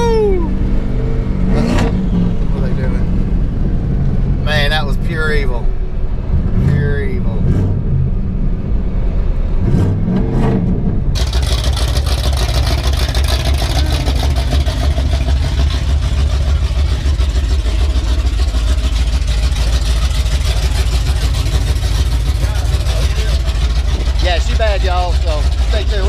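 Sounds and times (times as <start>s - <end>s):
car engine drone: 0.0s - 26.0s.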